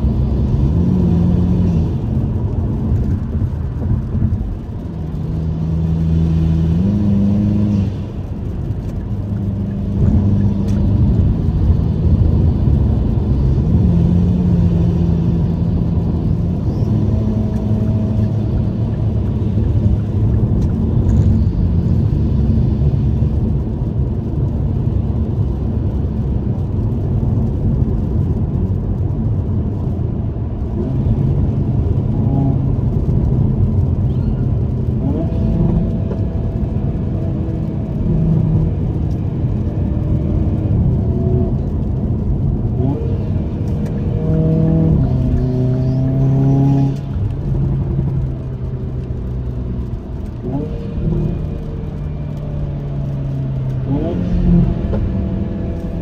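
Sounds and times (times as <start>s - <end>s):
car engine drone: 0.0s - 56.0s
tyre noise on wet road: 0.0s - 56.0s.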